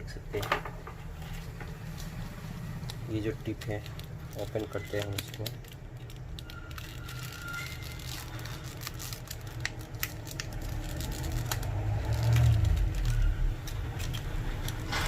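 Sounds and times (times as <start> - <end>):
packaging crinkling and tearing: 2.8 - 15.0.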